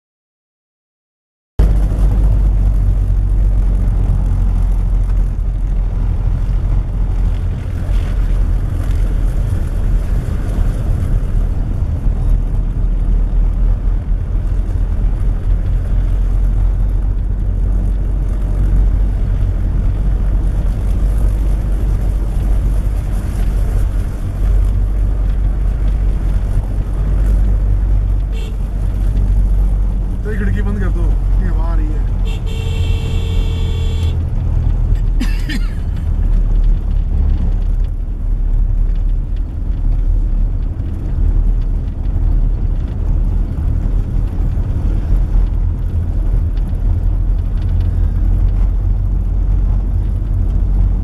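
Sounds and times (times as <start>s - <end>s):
car engine and road noise: 1.6s - 51.0s.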